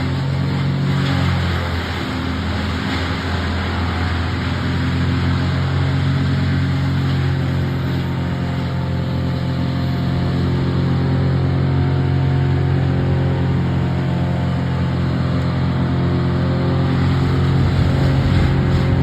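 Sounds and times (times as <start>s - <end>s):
large engine humming steadily: 0.0s - 19.0s.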